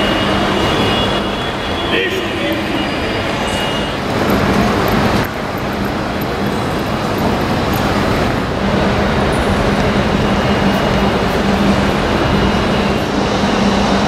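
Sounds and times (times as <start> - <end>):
railway station hall din: 0.0 - 14.0.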